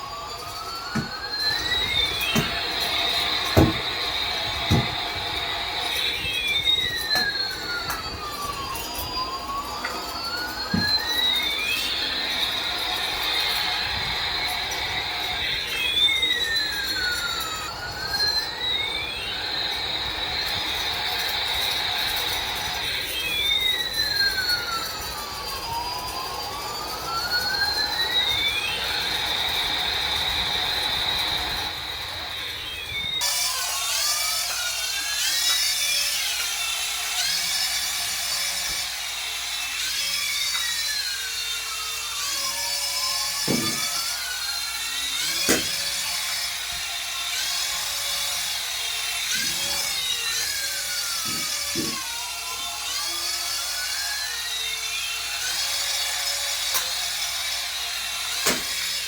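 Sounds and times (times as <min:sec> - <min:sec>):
toy siren-like tone: 0:00.0 - 0:59.0.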